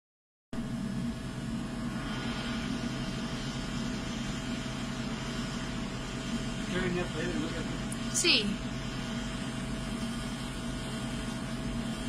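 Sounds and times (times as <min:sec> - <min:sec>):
background hum and hiss: 0:00.6 - 0:12.0.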